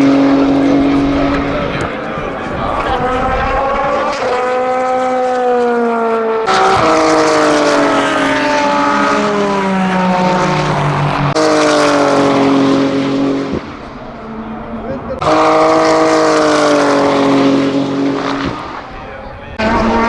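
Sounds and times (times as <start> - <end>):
race car engine at speed: 0.0 - 20.0.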